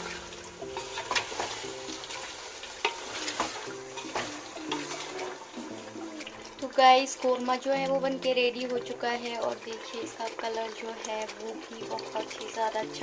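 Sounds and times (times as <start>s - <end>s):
spatula scraping metal pot: 0.0s - 12.8s
food sizzling: 0.0s - 13.0s
soft background music: 0.0s - 13.0s.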